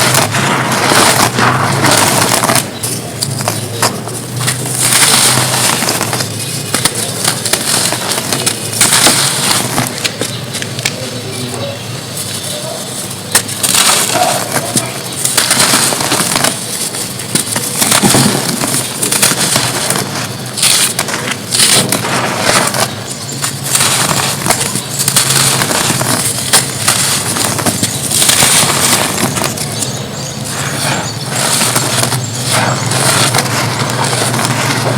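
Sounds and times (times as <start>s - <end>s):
dirt cones crumbling: 0.0s - 34.9s.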